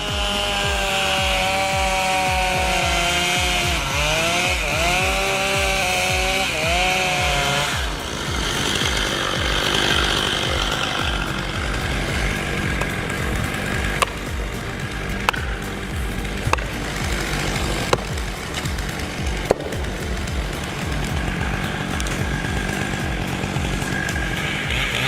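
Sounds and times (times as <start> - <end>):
chainsaw cutting under load: 0.0 - 25.0
music with steady beat: 0.0 - 25.0.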